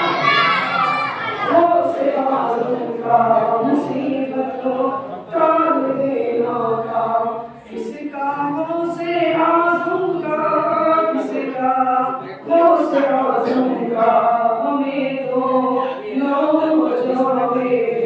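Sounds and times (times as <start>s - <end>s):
man singing a hymn over loudspeaker: 1.5s - 18.0s.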